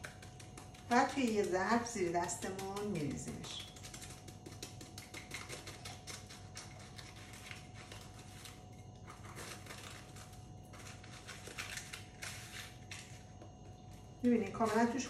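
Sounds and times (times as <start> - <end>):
knife scraping pastry crust: 0.0 - 13.2.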